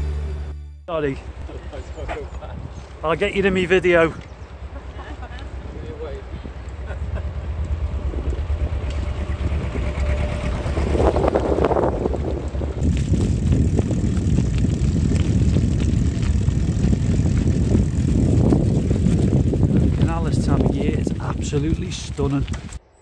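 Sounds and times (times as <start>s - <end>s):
wind buffeting microphone: 1.6s - 22.8s
bicycle tyres rumbling on path: 1.8s - 22.8s.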